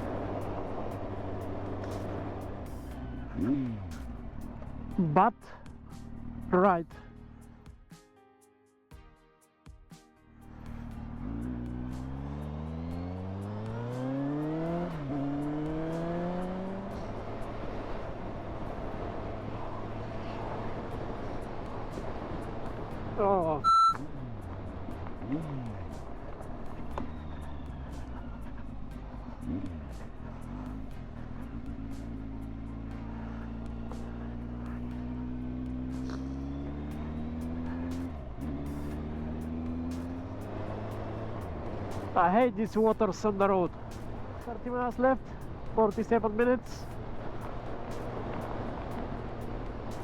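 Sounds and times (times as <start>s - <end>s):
motorcycle engine accelerating: 0.0s - 6.5s, 10.6s - 50.0s.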